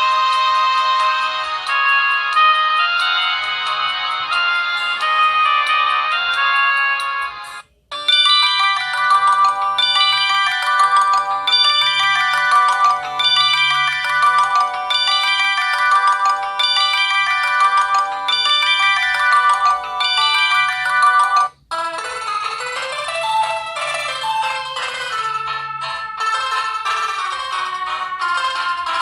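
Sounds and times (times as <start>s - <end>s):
phone ringtone melody: 0.0s - 29.0s.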